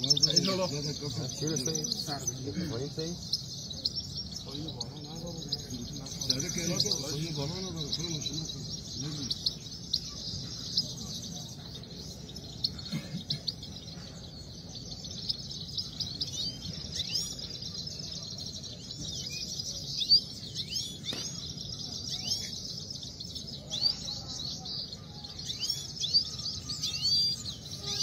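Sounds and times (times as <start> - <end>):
goldfinches twittering song: 0.0 - 28.0.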